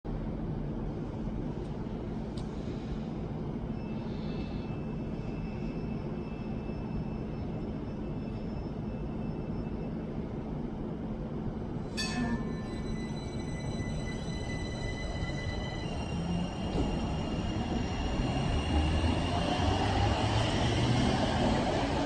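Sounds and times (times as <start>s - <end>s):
tram rumbling and humming: 0.1s - 22.0s.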